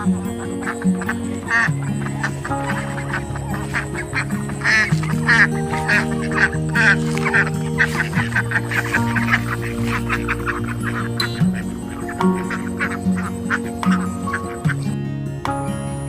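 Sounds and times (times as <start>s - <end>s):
ducks quacking: 0.0s - 15.0s
background music: 0.0s - 16.0s.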